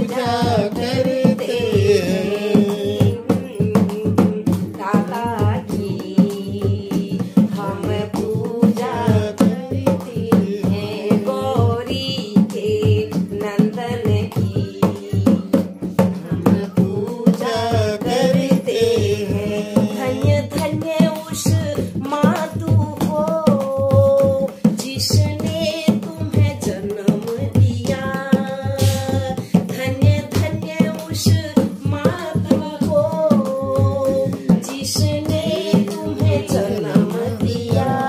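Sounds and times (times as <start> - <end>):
hand clapping: 0.0 - 38.0
hand drum strokes: 0.0 - 38.0
women singing devotional song: 0.0 - 38.0.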